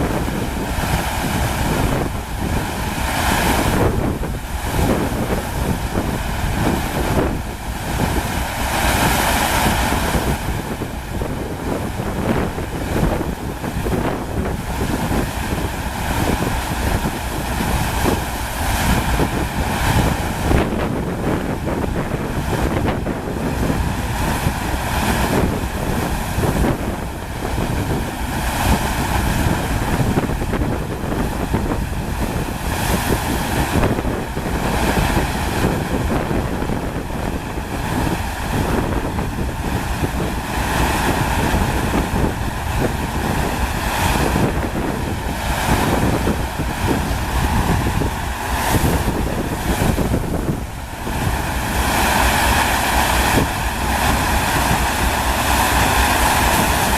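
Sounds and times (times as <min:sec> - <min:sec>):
water rushing: 0:00.0 - 0:56.9
wind buffeting microphone: 0:00.0 - 0:56.9.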